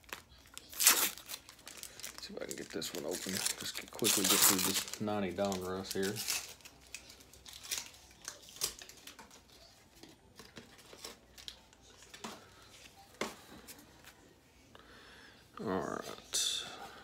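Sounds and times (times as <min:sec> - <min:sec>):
card pack rustling: 0:00.0 - 0:13.7.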